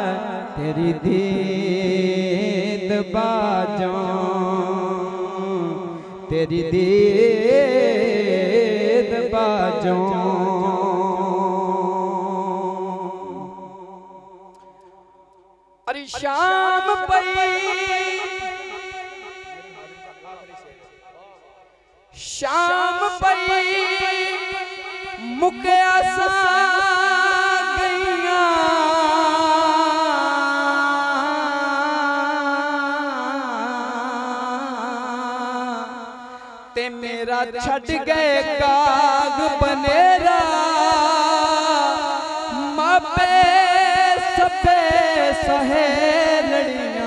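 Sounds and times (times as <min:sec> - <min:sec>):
man singing a long note: 0:00.0 - 0:14.8, 0:15.9 - 0:20.8, 0:22.2 - 0:47.0.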